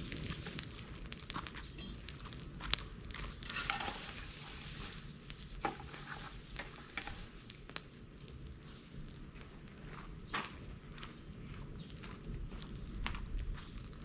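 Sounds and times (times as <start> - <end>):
bonfire crackling: 0.0 - 14.0.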